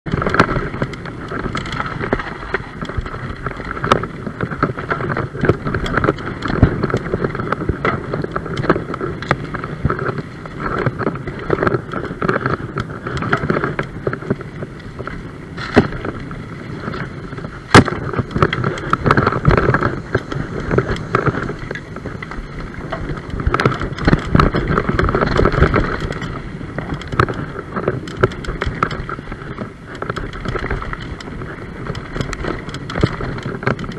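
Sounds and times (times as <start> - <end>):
bike rattling over bumps: 0.0 - 33.9
bike tyres crunching over dirt: 0.0 - 33.9
wind on microphone: 0.0 - 33.9.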